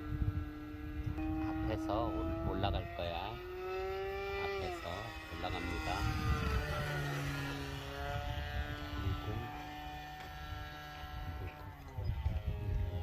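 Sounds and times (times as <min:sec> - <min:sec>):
model airplane engine running: 0:00.0 - 0:13.0.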